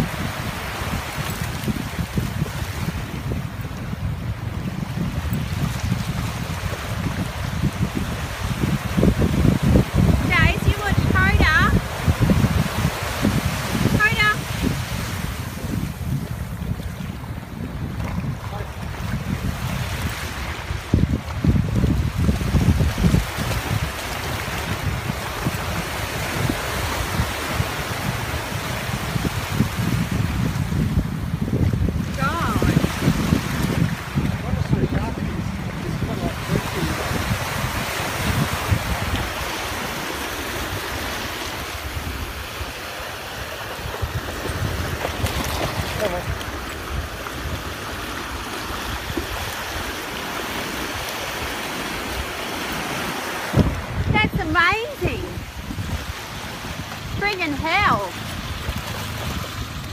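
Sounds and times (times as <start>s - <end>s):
small waves breaking on sand: 0.0s - 59.9s
wind buffeting microphone: 0.0s - 59.9s.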